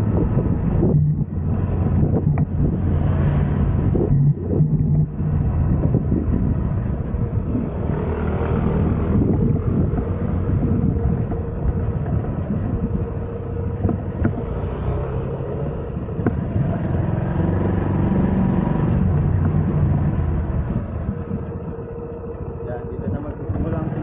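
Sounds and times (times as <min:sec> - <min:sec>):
moped engine running: 0:00.0 - 0:24.0.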